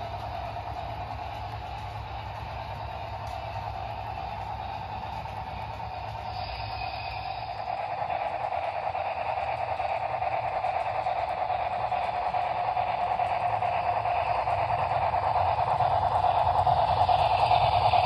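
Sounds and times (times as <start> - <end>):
low hum: 0.0 - 18.0
rushing steam sound: 0.0 - 18.0.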